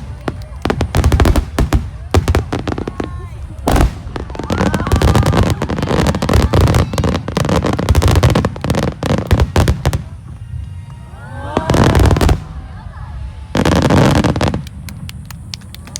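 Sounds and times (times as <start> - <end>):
fireworks bursting: 0.0 - 15.9.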